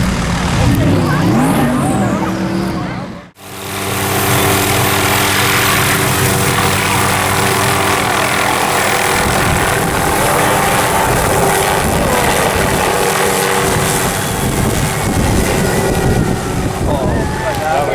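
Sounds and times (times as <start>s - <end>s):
helicopter engine and rotor: 0.0s - 17.9s.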